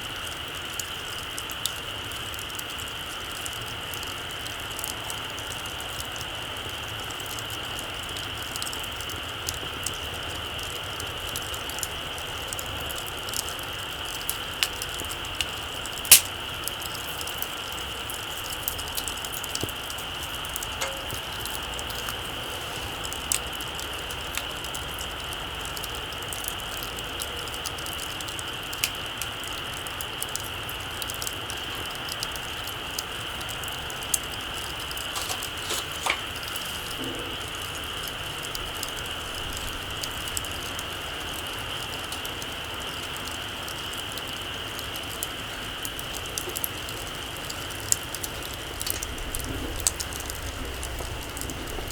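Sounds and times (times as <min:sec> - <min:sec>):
campfire crackling and popping: 0:00.0 - 0:51.9
steady hiss: 0:00.0 - 0:51.9.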